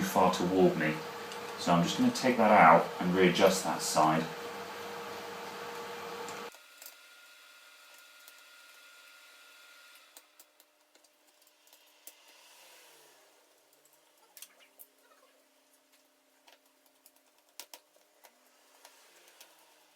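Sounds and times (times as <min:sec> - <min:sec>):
steady background hum: 0:00.0 - 0:19.9.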